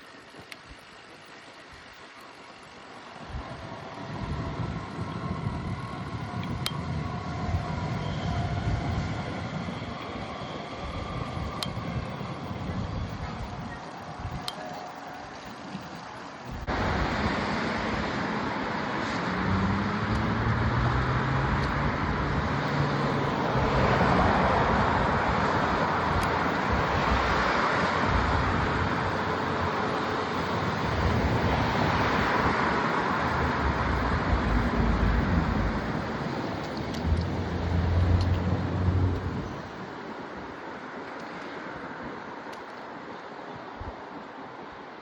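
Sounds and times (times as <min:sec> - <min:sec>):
low engine hum: 0:00.0 - 0:40.5
wind and road noise: 0:00.0 - 0:45.0
traffic going by: 0:03.2 - 0:43.1.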